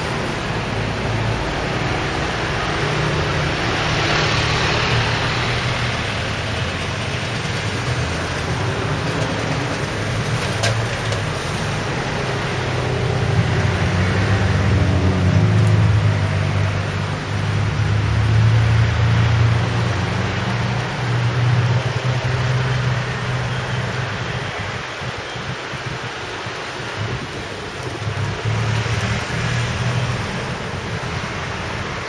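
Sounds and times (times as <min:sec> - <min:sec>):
road noise hum: 0:00.0 - 0:32.0
vehicles passing: 0:00.0 - 0:32.0.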